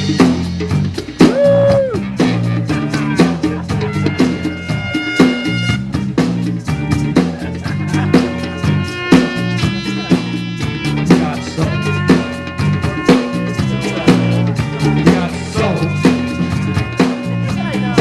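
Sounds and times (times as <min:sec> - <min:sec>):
bass guitar: 0:00.0 - 0:18.0
drum kit beat: 0:00.0 - 0:18.0.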